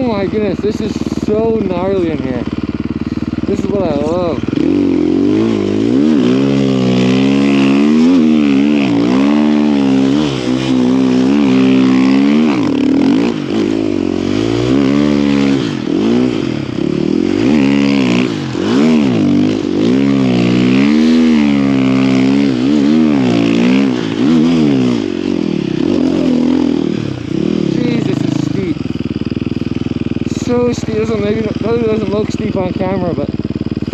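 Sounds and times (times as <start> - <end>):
snow bike engine revving: 0.0 - 33.9.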